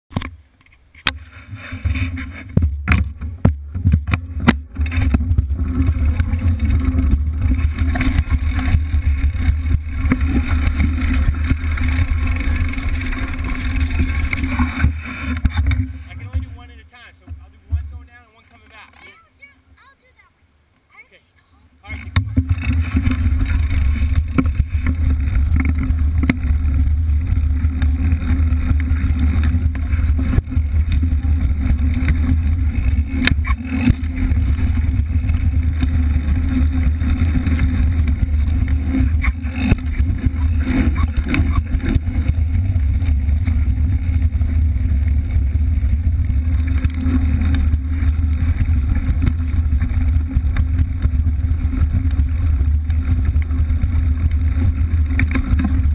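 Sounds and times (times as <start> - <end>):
bike tire and wind rumble: 0.1 - 18.7, 21.8 - 55.9
bike knocks and rattles: 1.0 - 18.1, 21.9 - 55.9.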